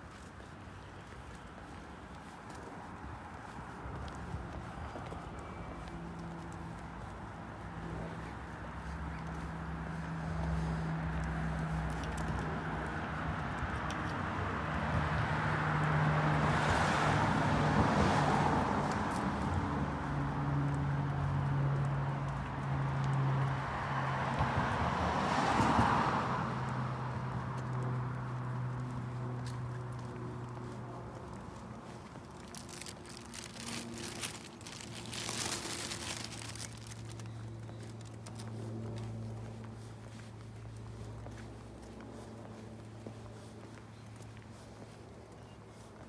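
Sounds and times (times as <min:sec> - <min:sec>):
footsteps on concrete: 0:00.0 - 0:14.4, 0:18.0 - 0:46.0
car engine and tyre noise: 0:00.0 - 0:46.0
low engine hum: 0:02.2 - 0:46.0.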